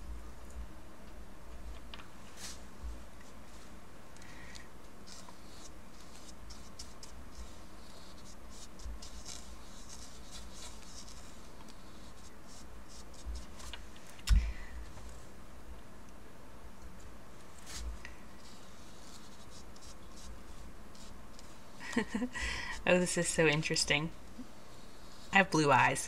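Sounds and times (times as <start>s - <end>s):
paintbrush strokes on paper: 1.6s - 15.4s, 17.0s - 26.0s.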